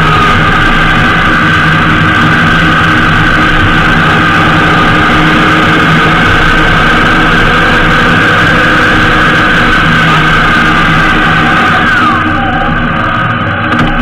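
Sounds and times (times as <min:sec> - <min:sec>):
high-pitched whine: 0:00.0 - 0:14.0
motorcycle engine: 0:00.0 - 0:14.0
road noise: 0:00.0 - 0:14.0.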